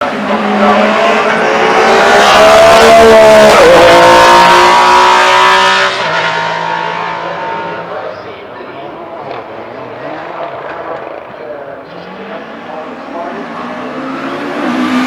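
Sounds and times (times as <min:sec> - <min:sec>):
rally car engine passing by: 0:00.0 - 0:15.0.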